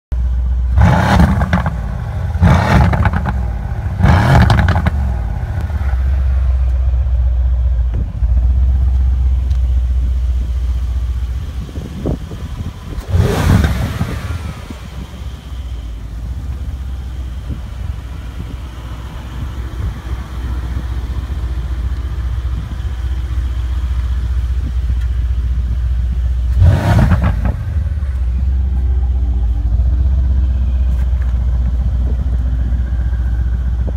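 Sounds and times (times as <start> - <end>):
car exhaust idling and revving: 0.1 - 33.9.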